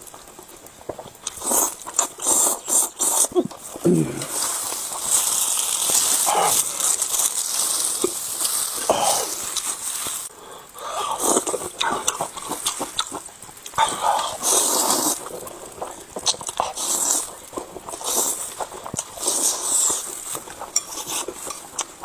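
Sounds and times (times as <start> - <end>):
wet chewing and mouth smacks: 0.1 - 10.3, 11.0 - 22.0
slurping noodles: 1.2 - 10.3, 10.9 - 22.0.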